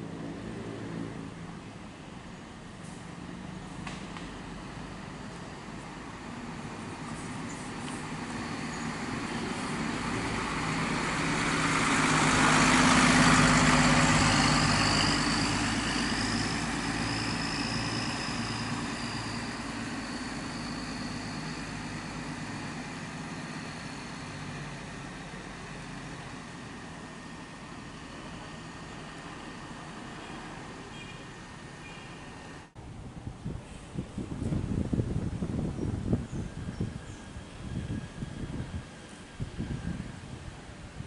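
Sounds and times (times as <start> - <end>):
bus diesel engine passing: 0.0 - 41.0.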